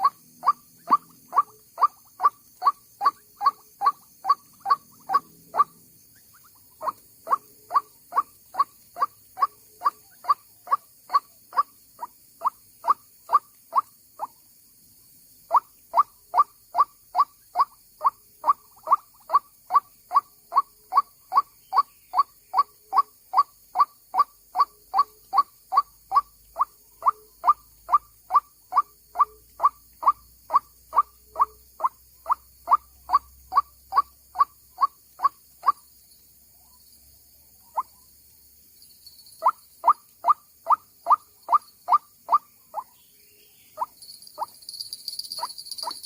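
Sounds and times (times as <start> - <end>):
waterhen calling: 0.0 - 14.3, 15.5 - 35.8, 37.7 - 38.0, 39.4 - 43.0.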